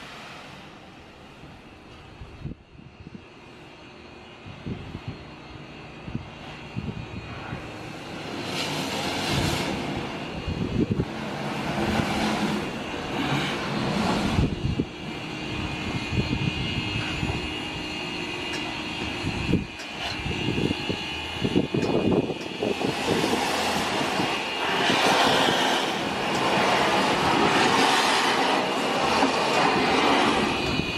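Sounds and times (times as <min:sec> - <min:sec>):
steam hissing: 0:00.0 - 0:01.6, 0:05.9 - 0:30.9
steam locomotive rumbling: 0:00.0 - 0:30.9.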